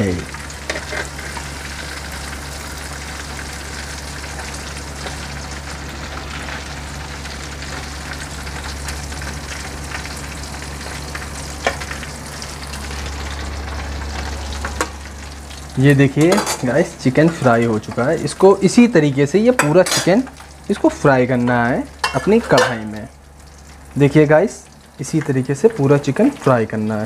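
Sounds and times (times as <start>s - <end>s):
food deep-frying in hot oil: 0.0s - 27.0s.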